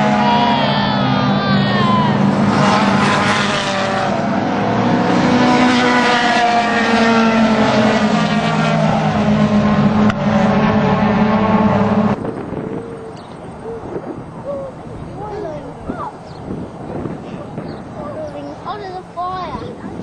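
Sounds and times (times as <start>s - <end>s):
race cars passing at full throttle: 0.0s - 20.0s.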